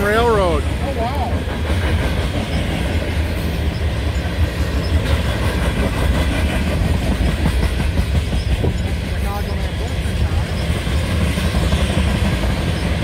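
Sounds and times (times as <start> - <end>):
freight train rolling on rails: 0.0 - 13.0.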